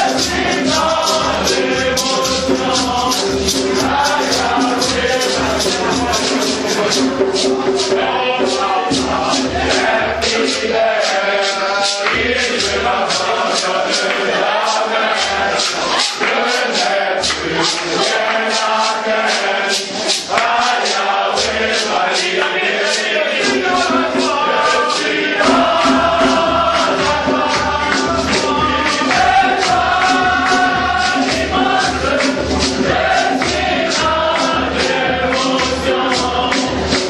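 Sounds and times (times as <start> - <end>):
group of voices singing: 0.0 - 37.0
percussion beat: 0.0 - 37.0.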